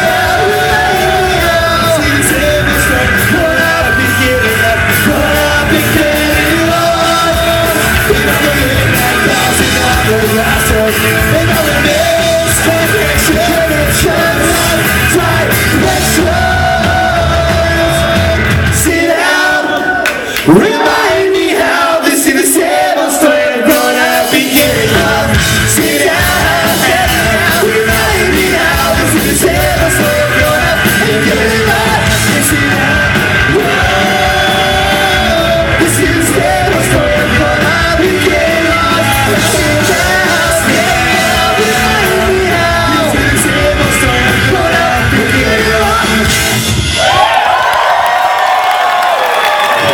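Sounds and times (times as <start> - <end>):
shouted and sung vocals: 0.0 - 49.9
ska-punk band playing live: 0.0 - 49.9.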